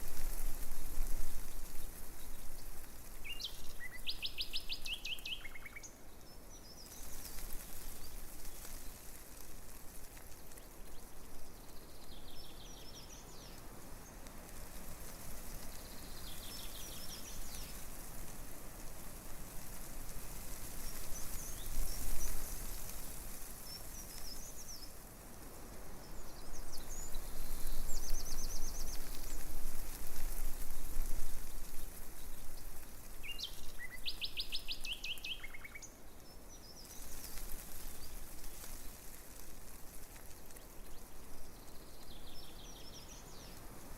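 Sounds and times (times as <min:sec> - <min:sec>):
breeze rustling leaves: 0:00.0 - 0:43.9
songbirds chirping: 0:00.9 - 0:43.9.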